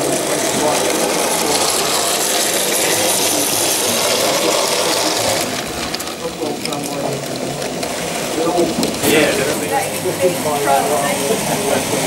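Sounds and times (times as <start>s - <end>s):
model train whirring and rattling: 0.0s - 12.0s.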